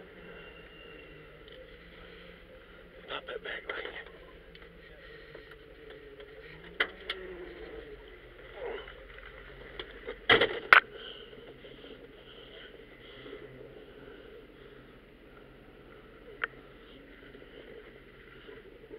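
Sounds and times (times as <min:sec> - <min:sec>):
truck engine idling: 0:00.0 - 0:18.9.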